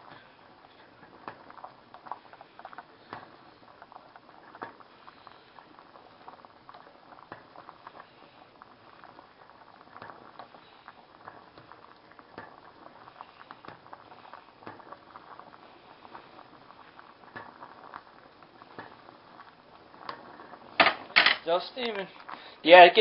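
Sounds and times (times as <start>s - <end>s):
water boiling in saucepan: 0.0s - 23.0s.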